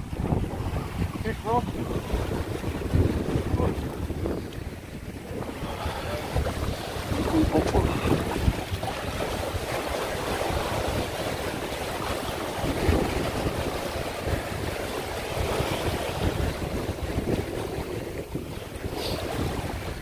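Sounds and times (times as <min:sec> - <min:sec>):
waves breaking on rocks: 0:00.0 - 0:20.0
wind buffeting microphone: 0:00.0 - 0:20.0.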